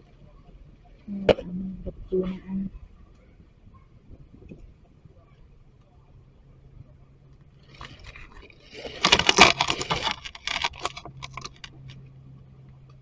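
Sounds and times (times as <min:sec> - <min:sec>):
crackling and rustling: 0:00.0 - 0:13.0.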